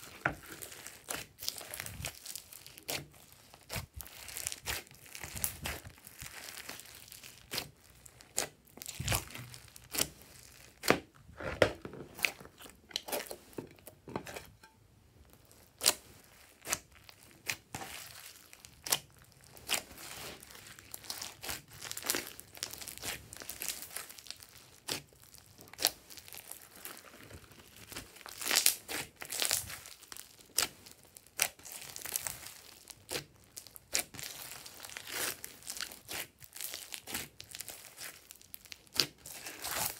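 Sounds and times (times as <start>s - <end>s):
slime squished by hands: 0.0s - 13.6s, 15.4s - 39.9s.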